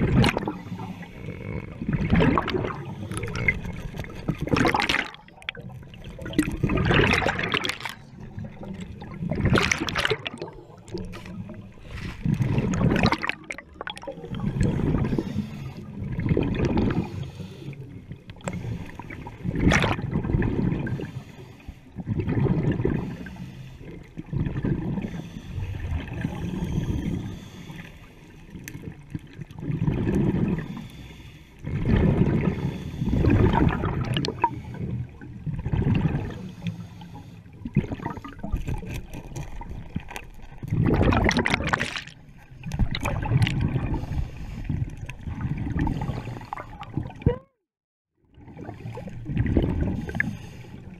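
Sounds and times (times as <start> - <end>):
underwater bubbles gurgling: 0.0 - 47.6, 48.2 - 50.9.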